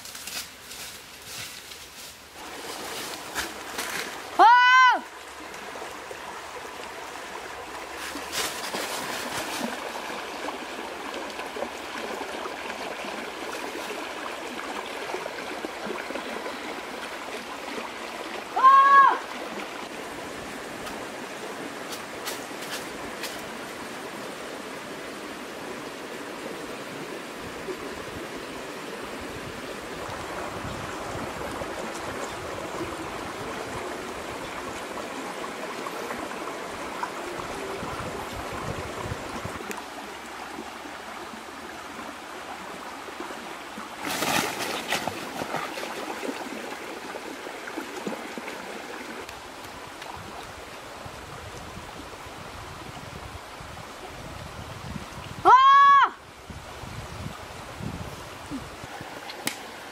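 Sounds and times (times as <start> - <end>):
water flowing over stones: 2.2 - 59.9.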